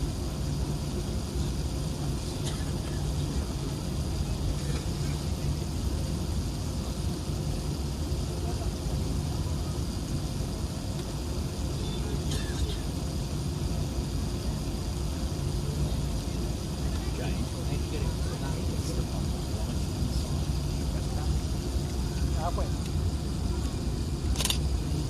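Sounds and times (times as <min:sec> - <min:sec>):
aircraft cabin rumble: 0:00.0 - 0:25.0.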